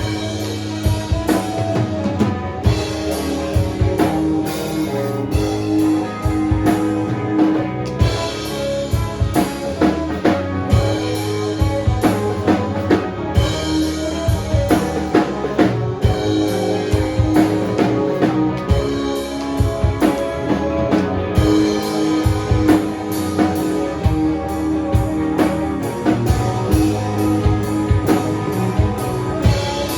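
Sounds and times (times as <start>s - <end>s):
drum kit beat: 0.0s - 29.9s
rock band playing live: 0.0s - 29.9s.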